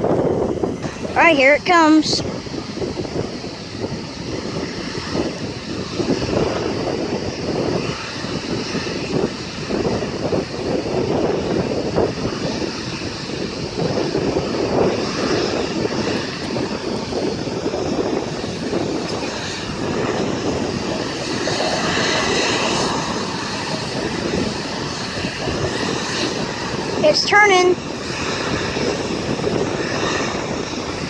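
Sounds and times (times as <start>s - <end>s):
jet engines whining at taxi power: 0.0s - 31.0s.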